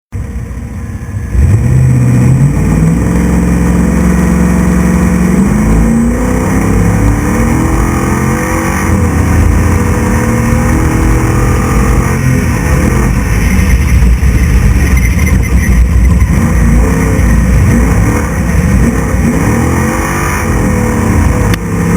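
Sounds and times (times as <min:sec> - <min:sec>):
truck engine accelerating hard: 0:00.1 - 0:21.9.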